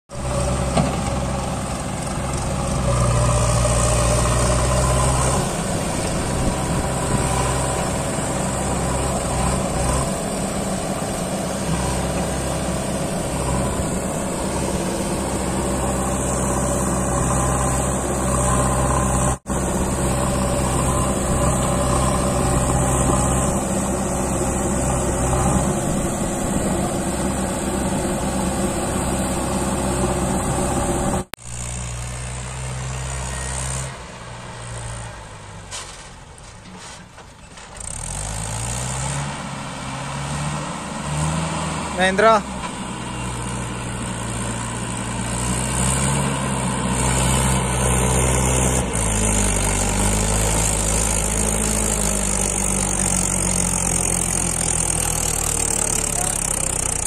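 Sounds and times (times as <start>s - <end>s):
backhoe loader diesel engine: 0.1s - 57.0s
tractor diesel engine: 0.1s - 57.0s.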